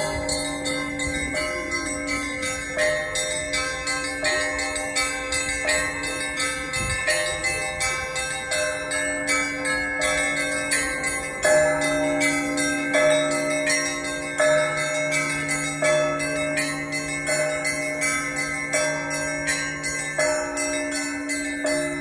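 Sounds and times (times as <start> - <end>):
heavy bell strikes: 0.0 - 22.0
large bells ringing: 0.0 - 22.0
small church bells striking rapidly: 0.0 - 22.0.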